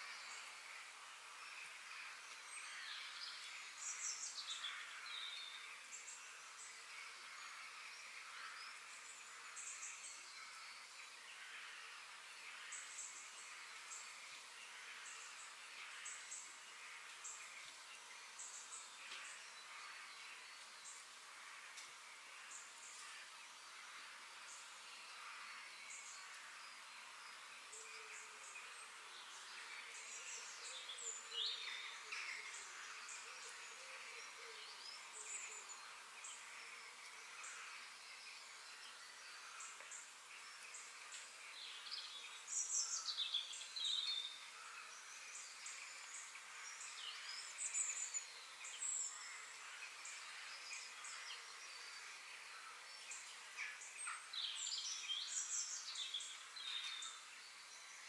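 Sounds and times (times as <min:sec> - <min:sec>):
faint woodland hiss: 0:00.0 - 0:58.0
forest birds chirping: 0:00.0 - 0:58.0.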